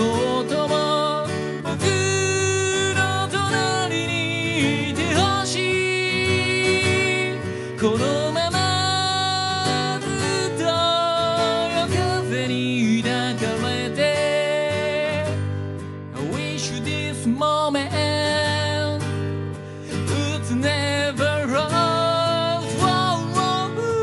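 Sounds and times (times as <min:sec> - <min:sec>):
man singing: 0:00.0 - 0:15.5, 0:16.1 - 0:24.0
strummed acoustic guitar: 0:00.0 - 0:24.0.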